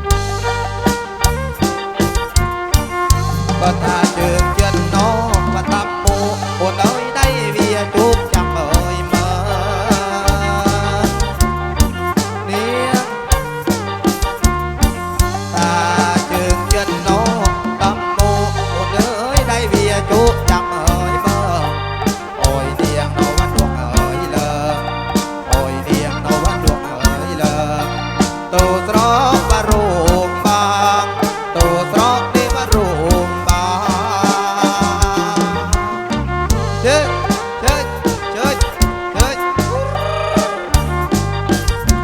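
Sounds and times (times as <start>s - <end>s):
live band over loudspeakers: 0.0s - 42.0s.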